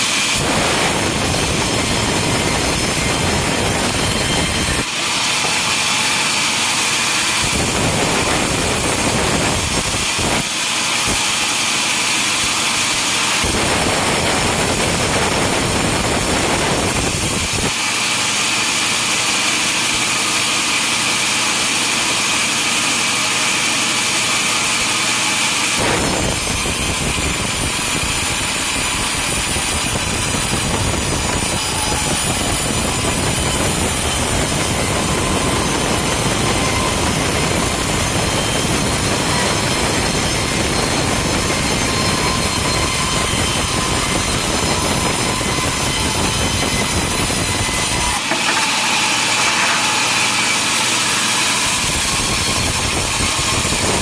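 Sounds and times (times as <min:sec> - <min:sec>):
sawmill saw cutting timber: 0:00.0 - 0:54.0.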